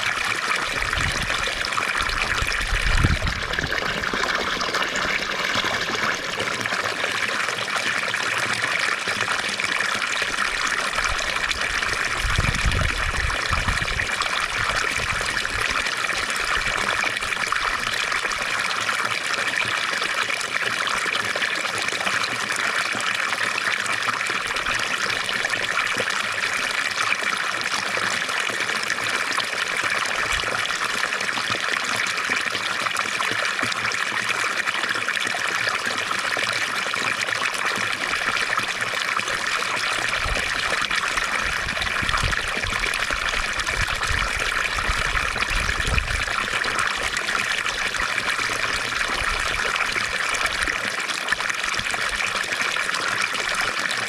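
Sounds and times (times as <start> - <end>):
fountain water trickling and splashing: 0.0 - 54.0.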